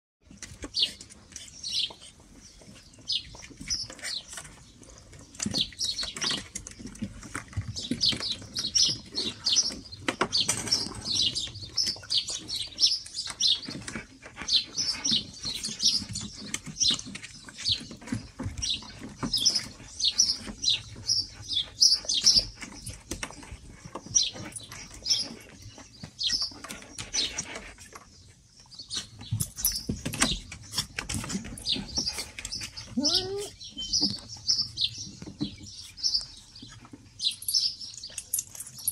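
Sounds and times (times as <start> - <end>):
puppy paws scraping on plastic: 0.3 - 37.3.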